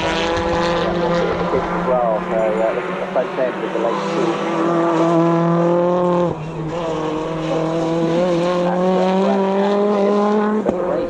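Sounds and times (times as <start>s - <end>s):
race car engines at high revs: 0.0s - 11.0s.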